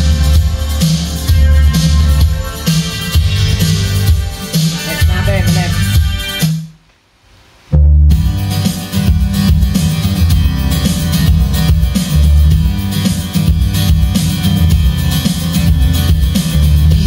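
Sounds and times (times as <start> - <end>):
heavy bass line: 0.0 - 6.2, 7.7 - 17.0
band music with drums and guitar: 0.0 - 6.8, 8.1 - 17.0.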